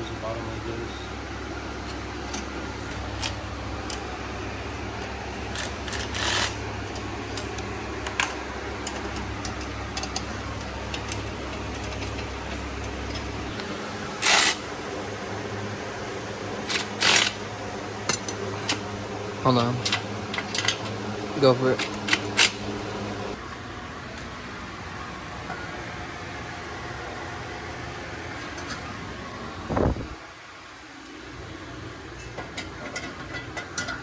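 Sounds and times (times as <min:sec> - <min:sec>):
steady low hum: 0:00.0 - 0:30.4.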